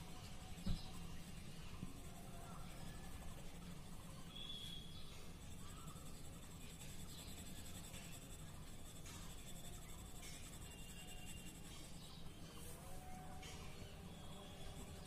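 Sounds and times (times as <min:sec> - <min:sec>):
pencil scratching on paper: 0:00.0 - 0:12.8.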